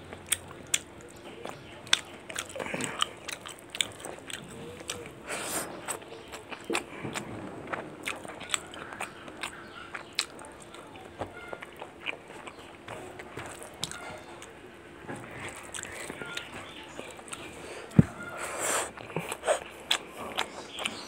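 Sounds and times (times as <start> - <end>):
person chewing crunchy food: 0.0 - 21.0.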